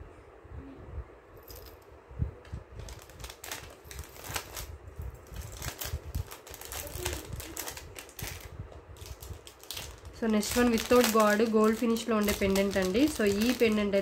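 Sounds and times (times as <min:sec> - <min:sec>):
jewellery clicking and rustling: 0:01.4 - 0:01.9, 0:02.8 - 0:14.0.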